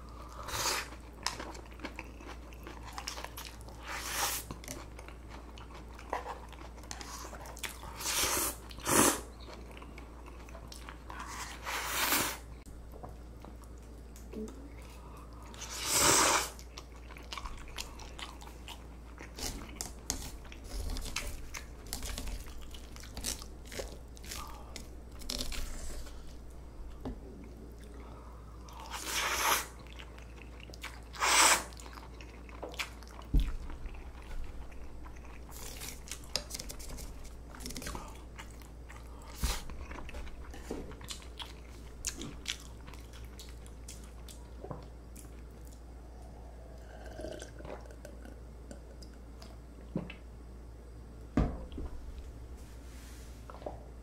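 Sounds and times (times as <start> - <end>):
chewing and crunching: 0.0 - 11.7, 16.5 - 49.9.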